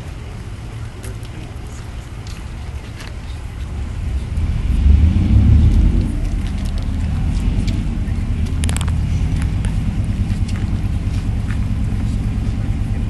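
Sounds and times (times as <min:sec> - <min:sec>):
diesel engines idling: 0:00.0 - 0:13.0.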